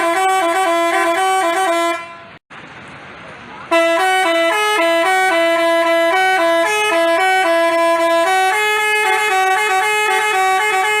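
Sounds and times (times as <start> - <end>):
multi-tone bus horn melody: 0.0 - 2.4, 3.7 - 11.0.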